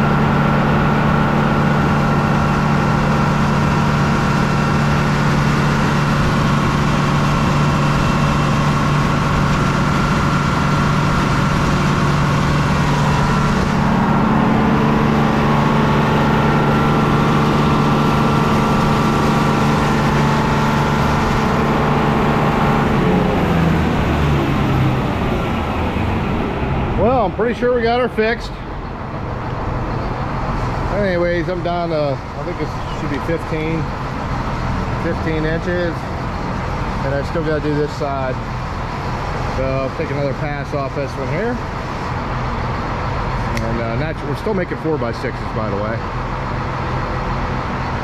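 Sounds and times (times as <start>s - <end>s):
sawmill machine hum: 0.0s - 48.0s.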